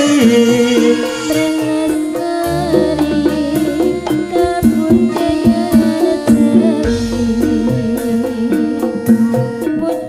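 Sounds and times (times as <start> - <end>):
ensemble melody: 0.0 - 10.0
hand-drum strokes: 0.0 - 10.0.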